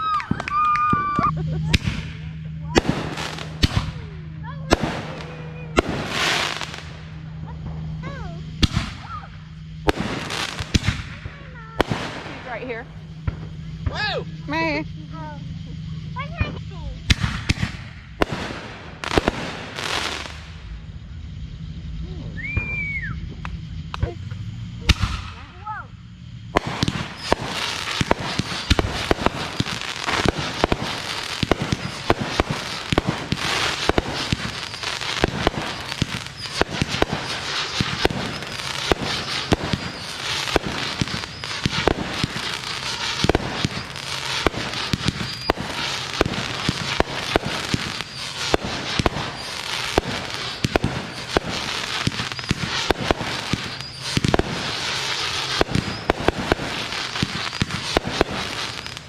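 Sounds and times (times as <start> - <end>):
fireworks popping: 0.0 - 20.9, 22.0 - 59.0
fireworks crackling: 0.0 - 59.0.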